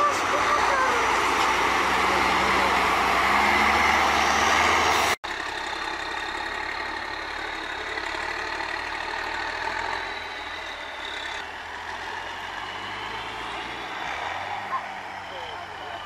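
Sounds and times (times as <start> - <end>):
truck engine revving in mud: 0.0 - 16.0.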